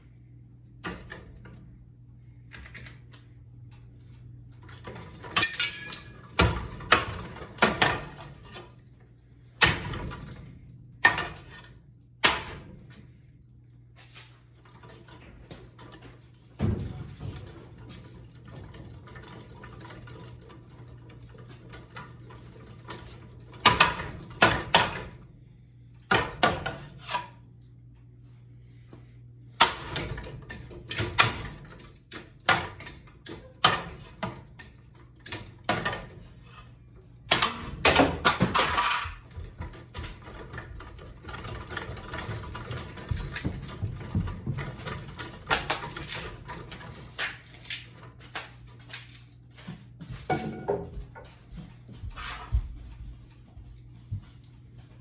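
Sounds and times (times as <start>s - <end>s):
ceiling fan parts clanking: 0.0s - 55.0s
steady low hum: 0.0s - 55.0s.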